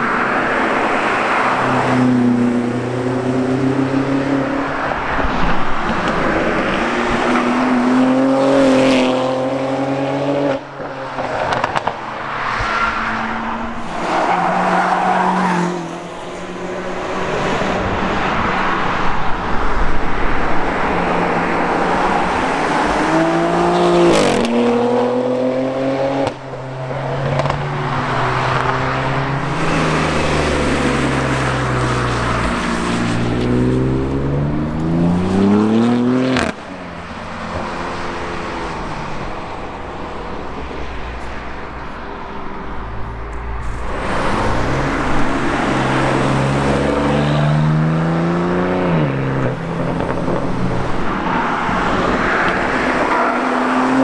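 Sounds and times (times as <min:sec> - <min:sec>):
car engine passing at speed: 0:00.0 - 0:54.0.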